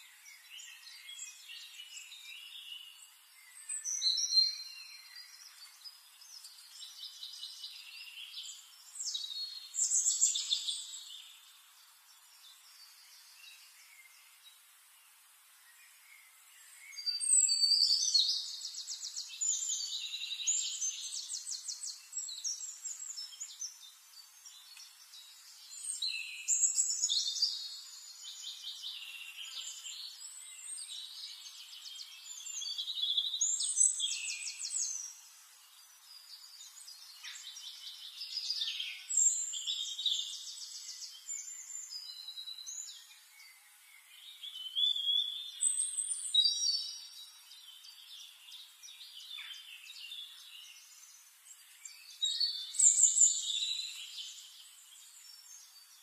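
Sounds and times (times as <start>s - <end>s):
songbirds trilling: 0.1s - 56.0s.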